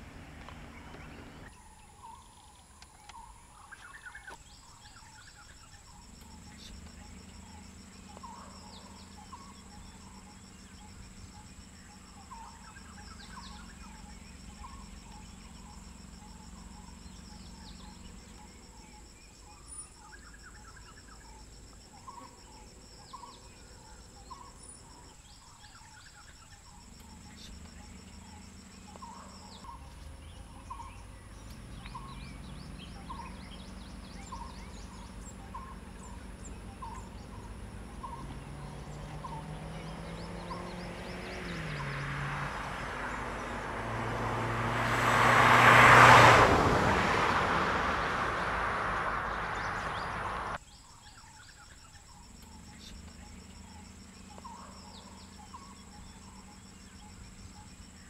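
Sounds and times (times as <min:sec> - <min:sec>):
bird chirps: 0:00.4 - 0:44.4, 0:46.0 - 0:58.0
insects trilling: 0:00.4 - 0:58.0.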